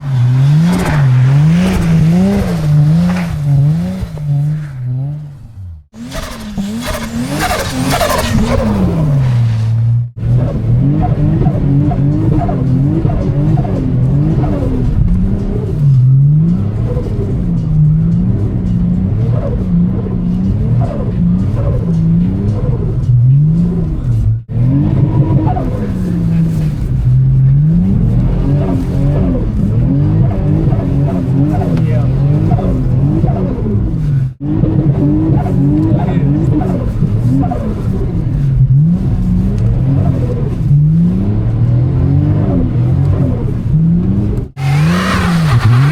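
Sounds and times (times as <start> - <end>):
car engine revving: 0.0 - 45.9
tyres skidding: 0.0 - 45.9.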